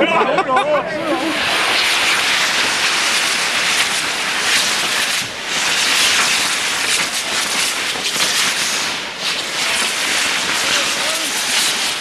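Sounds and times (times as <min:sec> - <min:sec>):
firework crackles: 0:01.0 - 0:12.0
firework rockets fizzing hiss: 0:01.0 - 0:12.0.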